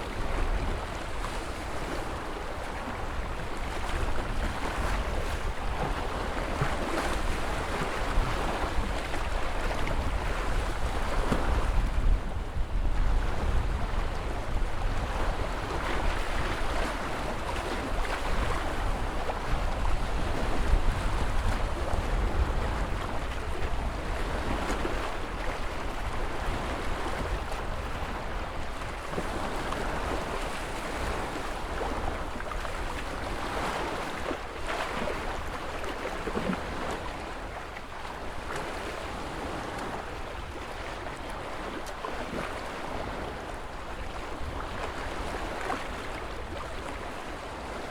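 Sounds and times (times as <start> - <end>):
low rumble of wind: 0.0 - 47.9
ocean waves surf: 0.0 - 47.9.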